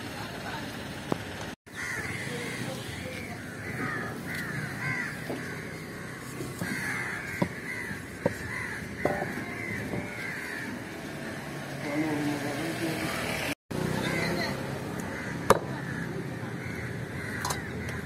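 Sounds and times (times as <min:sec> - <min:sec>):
crows cawing: 0:01.7 - 0:12.2, 0:14.0 - 0:18.0.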